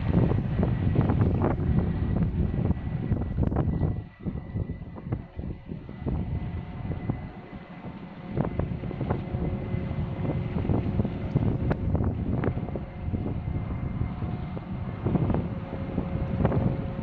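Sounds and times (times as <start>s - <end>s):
boat engine drone: 0.0s - 17.0s
wind buffeting microphone: 0.0s - 17.0s.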